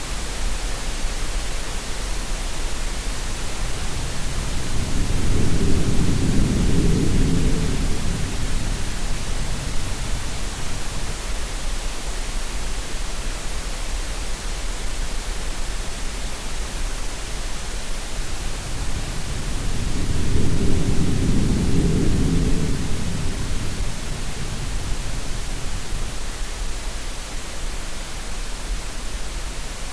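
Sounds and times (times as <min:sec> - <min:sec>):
steady noise hiss: 0:00.0 - 0:29.9.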